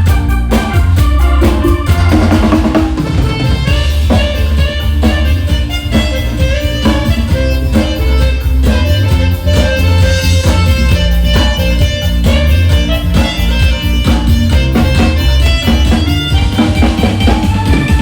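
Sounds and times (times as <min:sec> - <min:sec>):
drum hits on a steady beat: 0:00.0 - 0:18.0
electronic organ melody: 0:00.0 - 0:18.0
heavy bass: 0:00.0 - 0:18.0.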